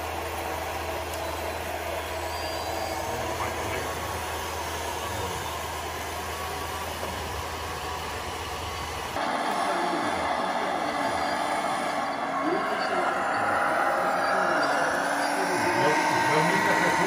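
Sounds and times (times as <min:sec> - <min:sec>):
toy truck motor humming: 0:00.0 - 0:17.0.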